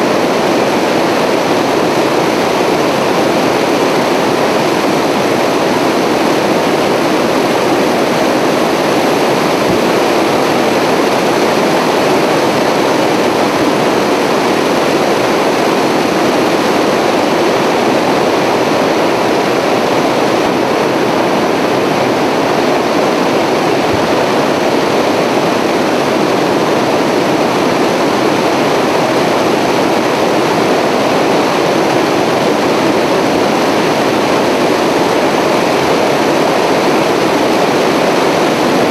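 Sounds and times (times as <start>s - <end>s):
aircraft engine roar: 0.0s - 38.9s.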